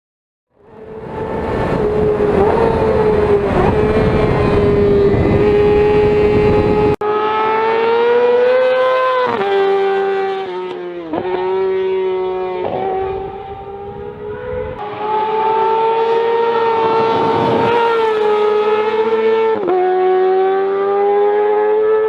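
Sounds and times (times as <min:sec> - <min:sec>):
motorcycle engine screaming: 0:00.9 - 0:19.7.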